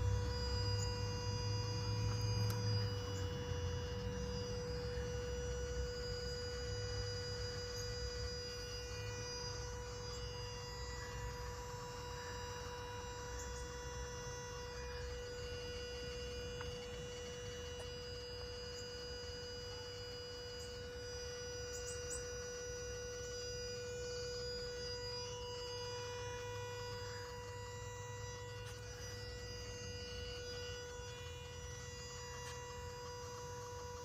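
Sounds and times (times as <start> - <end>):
car electrical humming and buzzing: 0.0 - 34.0.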